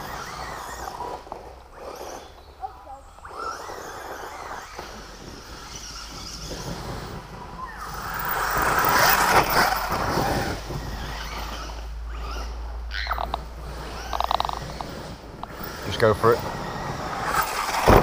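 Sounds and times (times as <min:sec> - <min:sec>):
rc truck motor and tyres: 0:00.0 - 0:18.0.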